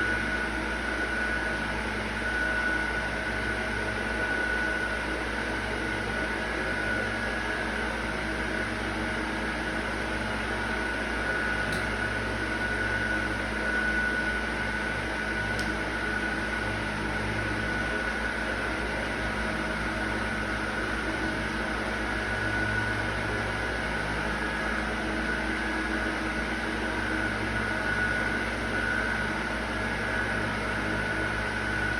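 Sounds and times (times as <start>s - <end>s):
machine hum with high whine: 0.0s - 31.9s.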